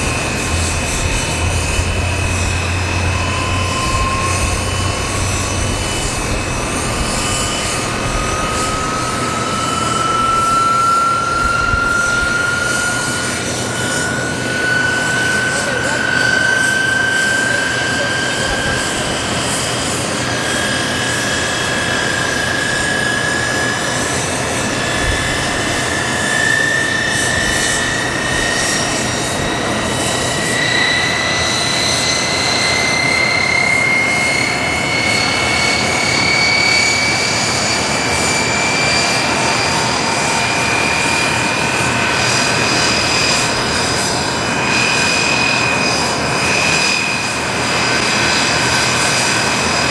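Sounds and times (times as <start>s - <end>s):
aircraft turbine engine whine: 0.0s - 49.9s.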